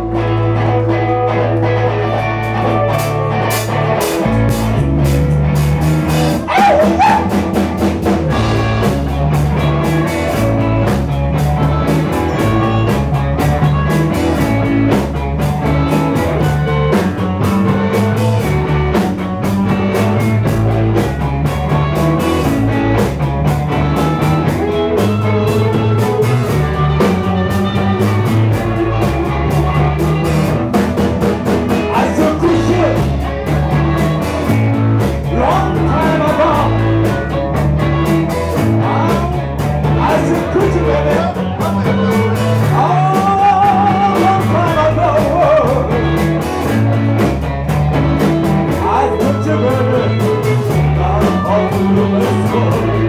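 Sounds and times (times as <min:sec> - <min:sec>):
drum kit beat: 0:00.0 - 0:53.0
electric bass line: 0:00.0 - 0:53.0
electric guitars: 0:00.0 - 0:53.0.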